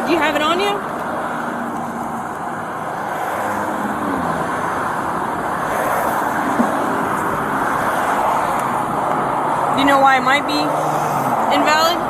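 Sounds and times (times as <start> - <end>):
vehicles passing at speed: 0.0 - 12.0.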